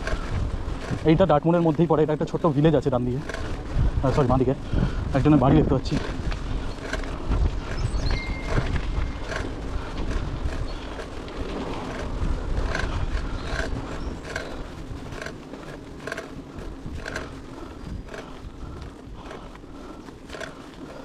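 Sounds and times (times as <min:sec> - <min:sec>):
bicycle tyre noise: 0:00.0 - 0:21.0
wind rumbling on microphone: 0:00.0 - 0:21.0.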